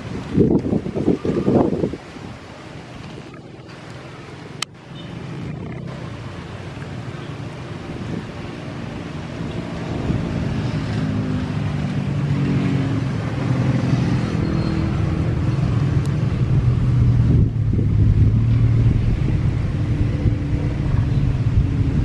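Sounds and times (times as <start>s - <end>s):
engine drone: 2.4s - 22.0s.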